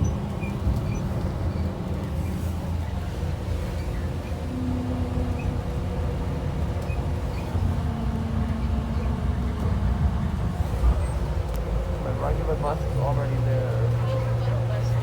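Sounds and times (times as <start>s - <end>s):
diesel bus engine rumble: 0.0s - 15.0s.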